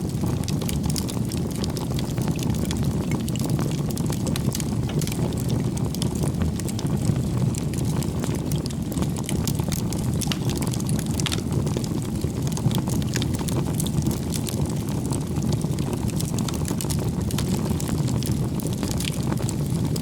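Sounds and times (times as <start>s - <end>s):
bonfire flames rumbling: 0.0s - 20.0s
burning wood crackling: 0.0s - 20.0s.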